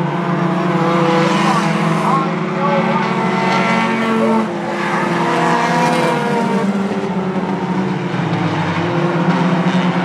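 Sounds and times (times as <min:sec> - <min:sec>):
race car engines at speed: 0:00.0 - 0:10.0.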